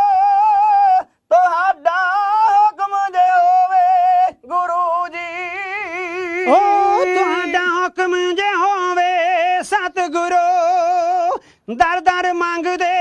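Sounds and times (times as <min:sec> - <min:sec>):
men singing with vibrato: 0:00.0 - 0:13.0.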